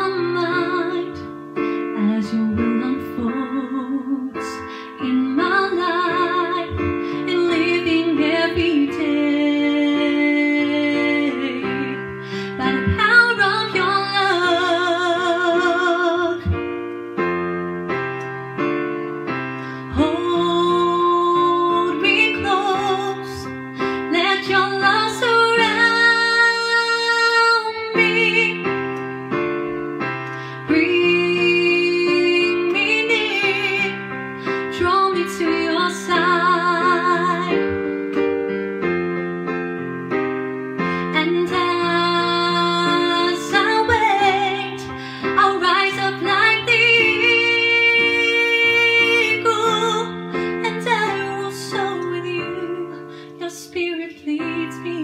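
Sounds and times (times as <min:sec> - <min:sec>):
woman singing: 0:00.0 - 0:16.8, 0:19.8 - 0:29.0, 0:30.4 - 0:38.5, 0:40.8 - 0:55.0
digital piano chords: 0:00.0 - 0:55.0.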